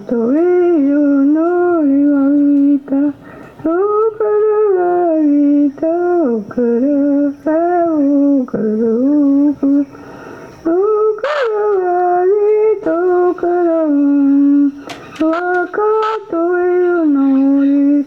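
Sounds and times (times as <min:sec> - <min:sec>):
person humming a slow melody: 0:00.0 - 0:18.0.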